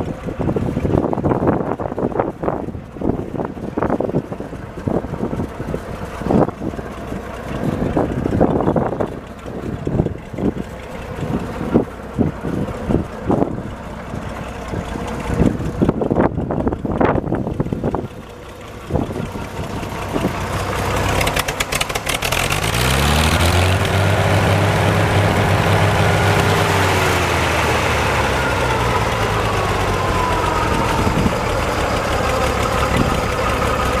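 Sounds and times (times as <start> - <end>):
tractor engine running and revving: 0.0 - 34.0.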